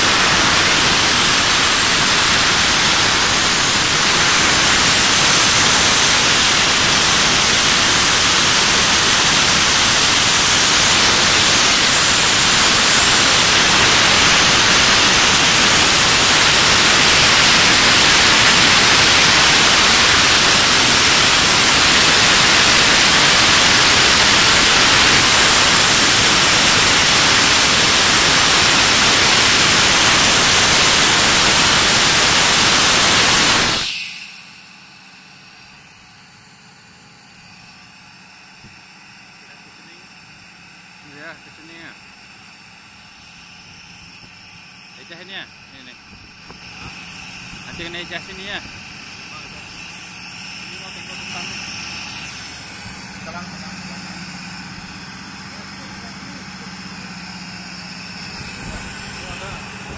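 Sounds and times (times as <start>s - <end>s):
compressed air hissing: 0.0s - 34.6s, 46.0s - 59.9s.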